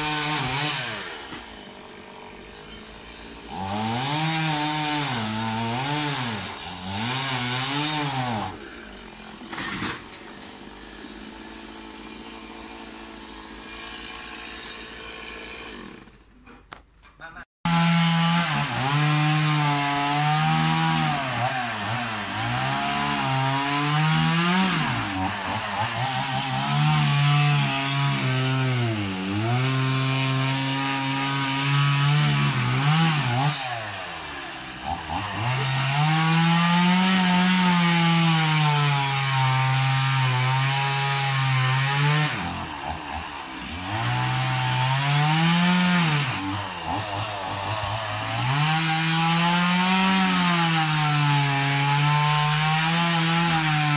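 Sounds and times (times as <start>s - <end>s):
chainsaw cutting wood: 0.0s - 16.9s, 17.6s - 53.9s.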